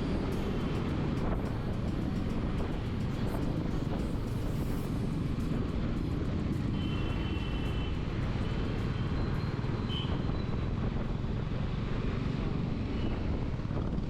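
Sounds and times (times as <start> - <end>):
motorcycle road rumble and wind: 0.0 - 14.0.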